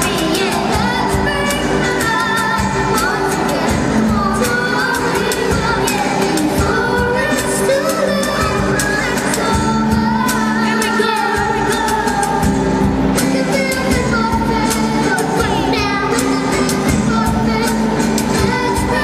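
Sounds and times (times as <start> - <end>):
girl singing into microphone: 0.0 - 19.0
guitars: 0.0 - 19.0
percussion beat: 0.0 - 19.0.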